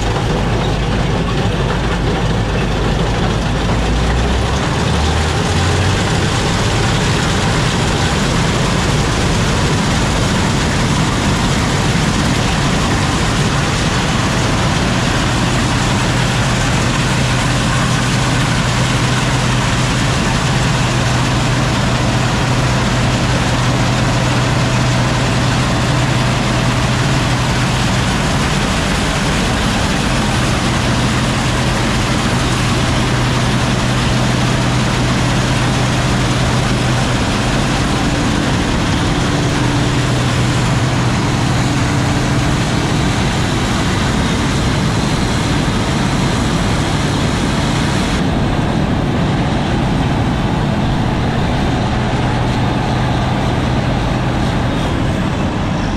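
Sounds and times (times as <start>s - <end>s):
heavy engine droning: 0.0s - 55.9s.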